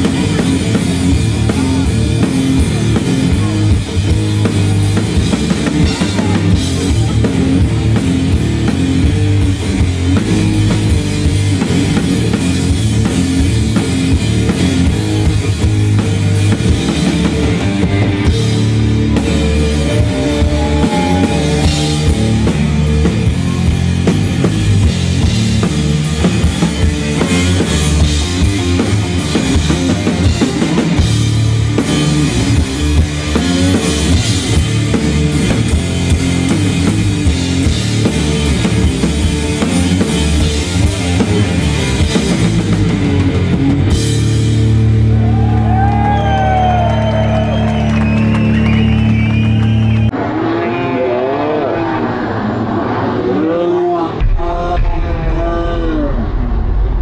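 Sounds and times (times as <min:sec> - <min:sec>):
drum kit with steady beat: 0:00.0 - 0:46.1
electric guitar: 0:00.0 - 0:53.3.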